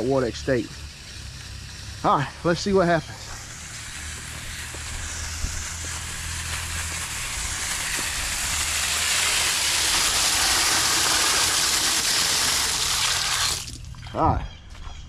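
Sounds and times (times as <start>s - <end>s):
water rushing out of outlet: 0.0s - 13.9s.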